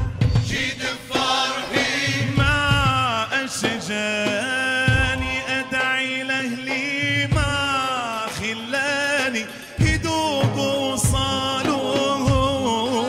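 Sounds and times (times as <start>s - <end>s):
drum strikes: 0.0s - 13.0s
male voices singing: 0.0s - 13.0s.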